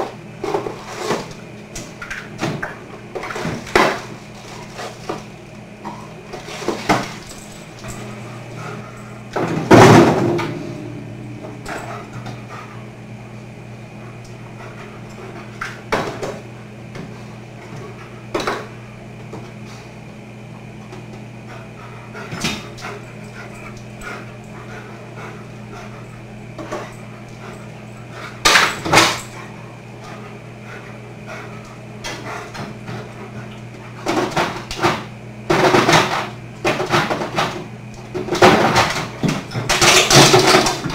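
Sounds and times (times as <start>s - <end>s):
fridge shelves and bins clattering: 0.0s - 19.6s, 21.9s - 29.6s, 30.6s - 40.9s
steady low hum: 0.0s - 40.9s.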